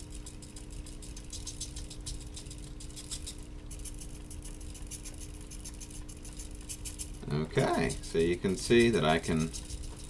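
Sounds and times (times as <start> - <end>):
servos chattering ticks: 0.0 - 10.0
steady low hum: 0.0 - 10.0.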